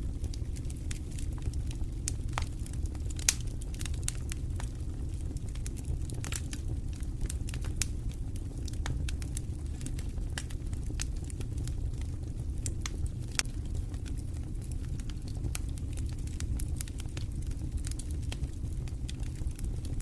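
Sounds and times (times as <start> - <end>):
low rumble of burning logs: 0.0 - 20.0
wood fire crackling: 0.0 - 20.0
fire pops and snaps: 0.2 - 20.0.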